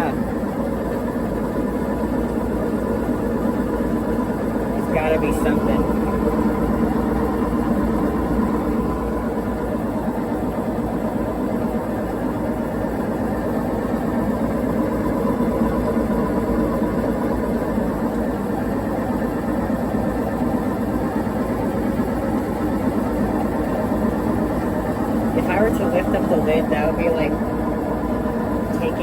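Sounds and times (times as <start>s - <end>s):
washing machine spinning noisily: 0.0s - 29.0s.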